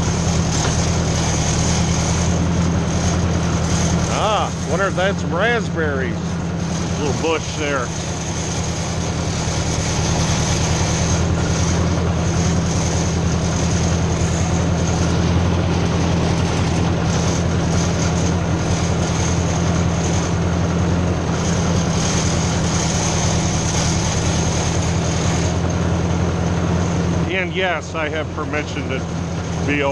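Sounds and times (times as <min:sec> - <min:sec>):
tractor engine droning: 0:00.0 - 0:29.9.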